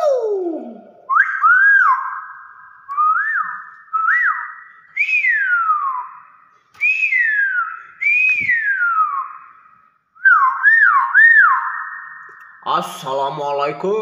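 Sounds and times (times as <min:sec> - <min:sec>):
myna bird whistling: 0:00.4 - 0:12.6.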